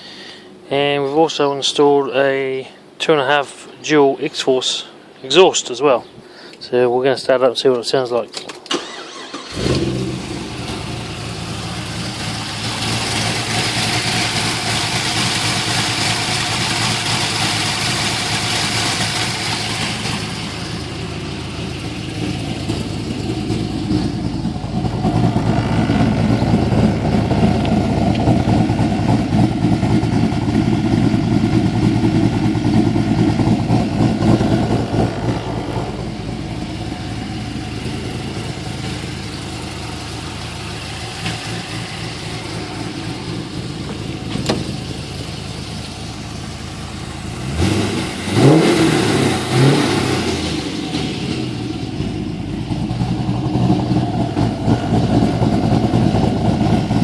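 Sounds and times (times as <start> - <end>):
car engine idling: 8.8 - 57.0.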